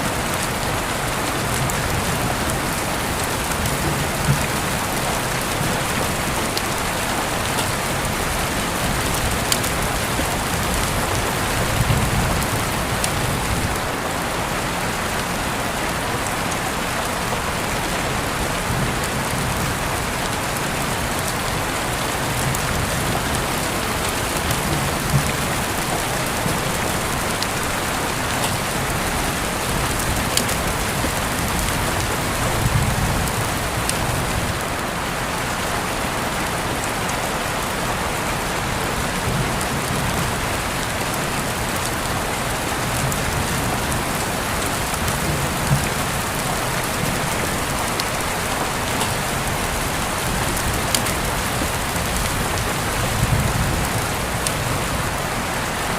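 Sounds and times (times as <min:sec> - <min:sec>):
louder rain spatters: 0:00.0 - 0:55.9
steady rain hiss: 0:00.0 - 0:55.9.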